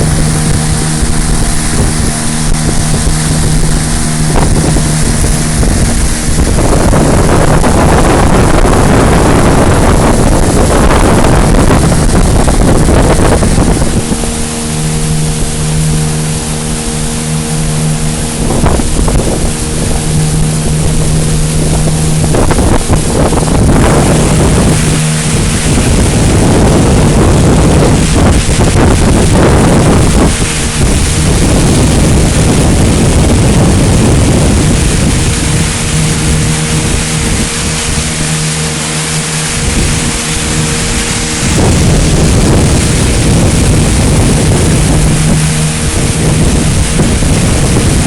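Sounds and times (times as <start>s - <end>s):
motorboat engine running: 0.0s - 48.0s
water rushing: 0.0s - 48.0s
wind on microphone: 0.0s - 48.0s.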